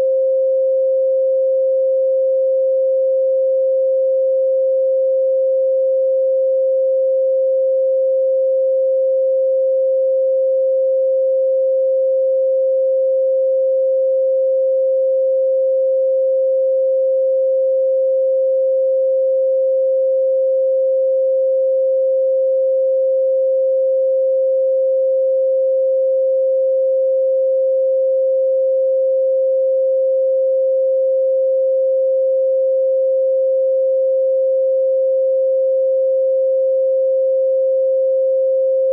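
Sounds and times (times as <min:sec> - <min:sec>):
steady sine tone: 0:00.0 - 0:38.9.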